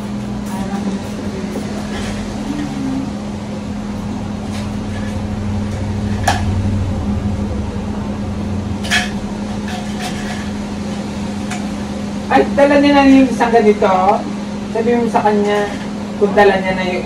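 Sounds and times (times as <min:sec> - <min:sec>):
kitchen appliance humming: 0:00.0 - 0:17.0.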